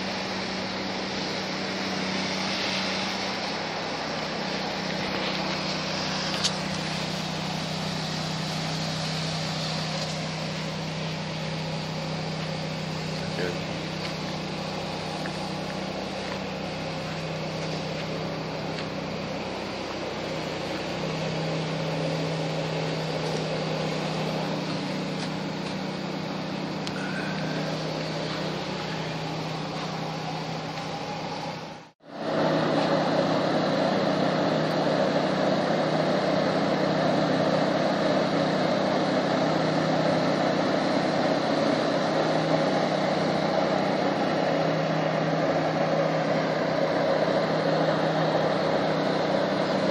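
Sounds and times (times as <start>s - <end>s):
spray pump motor hum: 0.0s - 49.9s.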